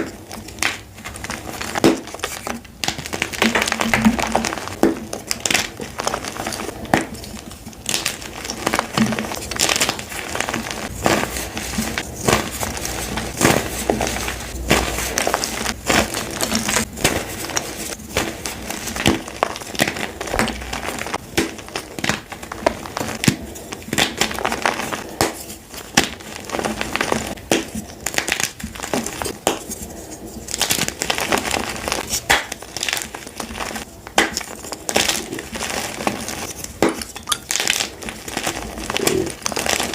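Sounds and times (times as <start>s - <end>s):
chalk crunching and crumbling by hand: 0.0s - 39.9s.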